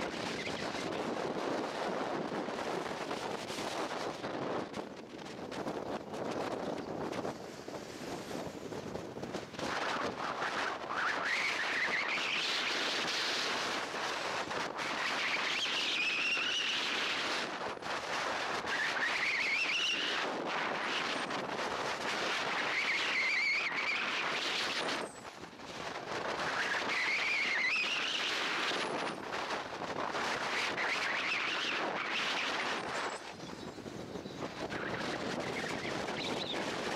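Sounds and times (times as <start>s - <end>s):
wind on microphone: 0.0s - 36.9s.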